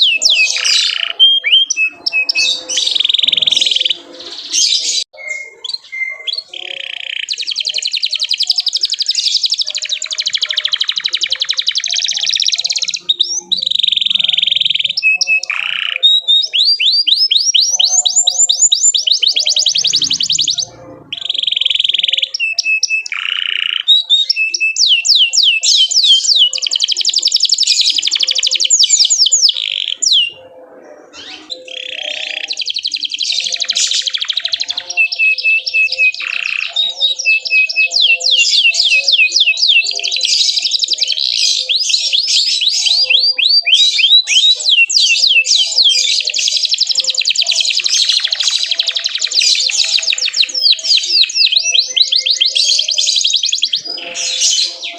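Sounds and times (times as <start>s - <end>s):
canary singing trills and chirps: 0.0s - 54.9s.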